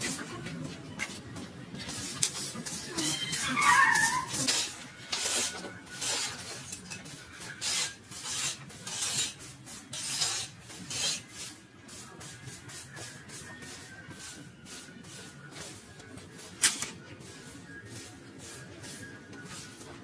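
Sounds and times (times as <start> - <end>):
rhythmic scraping strokes: 0.0 - 20.0.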